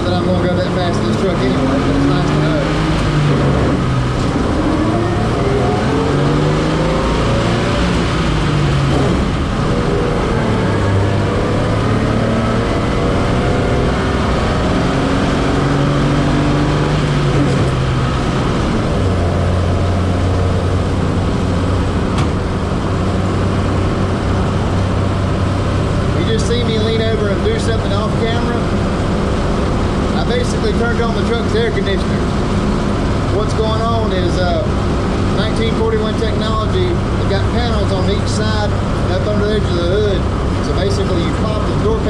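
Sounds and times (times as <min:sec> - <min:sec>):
road noise: 0:00.0 - 0:42.0
truck engine running: 0:00.0 - 0:42.0.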